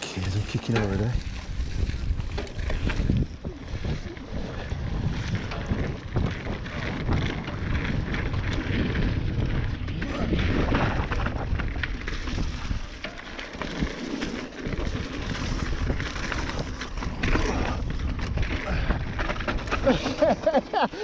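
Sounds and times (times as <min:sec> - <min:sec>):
wind buffeting microphone: 0:00.0 - 0:13.0, 0:14.6 - 0:20.4
bike rattling: 0:00.0 - 0:21.0.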